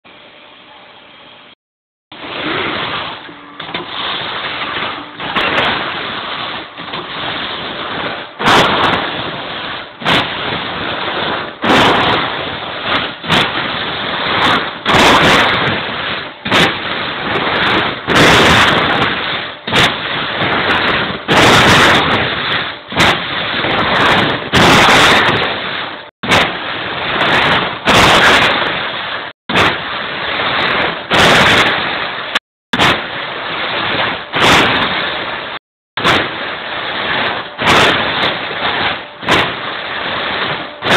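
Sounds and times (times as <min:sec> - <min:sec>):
punch press punching sheet metal: 0:02.1 - 0:40.9.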